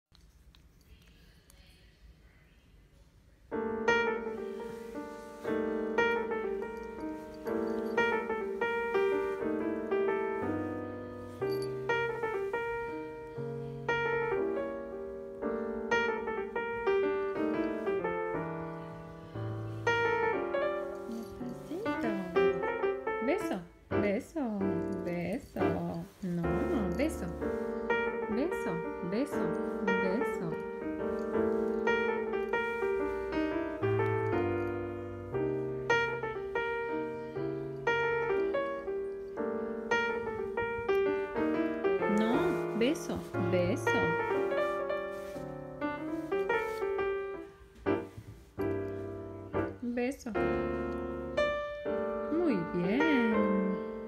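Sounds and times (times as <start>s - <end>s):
piano notes and chords: 3.4s - 54.0s.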